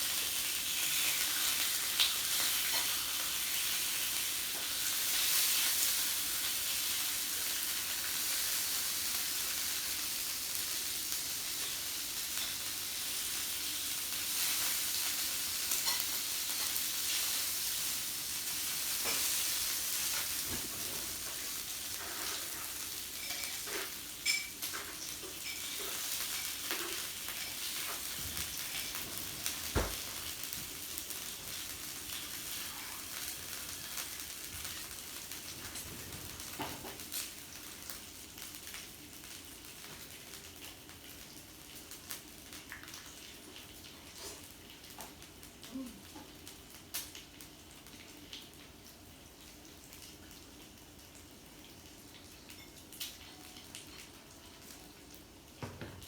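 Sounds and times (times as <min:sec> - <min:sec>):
meat sizzling on a grill: 0:00.0 - 0:56.0.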